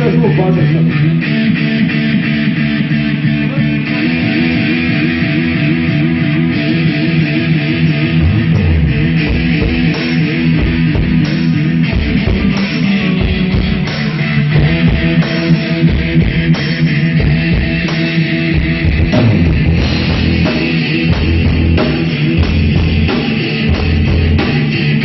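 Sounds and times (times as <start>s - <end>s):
electric guitar riff: 0.0s - 25.0s
heavy low drum beats: 0.0s - 25.0s
rock band playing: 0.0s - 25.0s.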